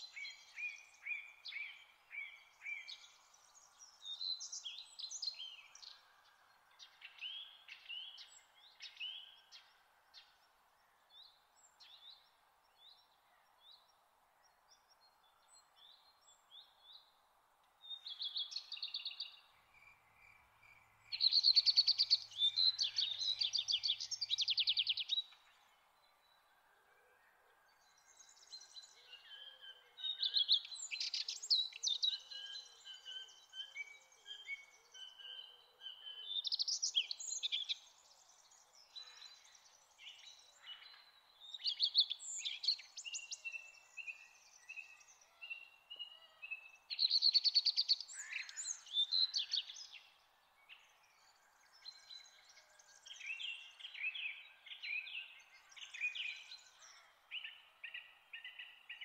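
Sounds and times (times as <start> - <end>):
faint background hiss: 0.0 - 51.8.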